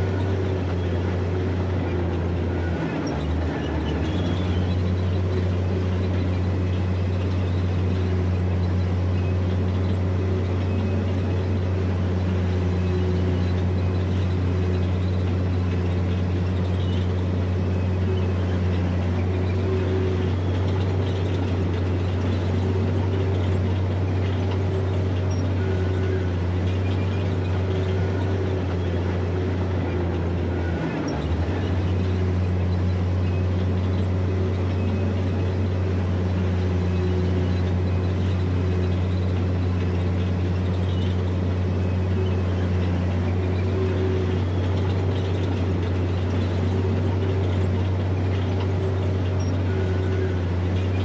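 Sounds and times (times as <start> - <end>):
bulldozer diesel engine droning: 0.0 - 51.0.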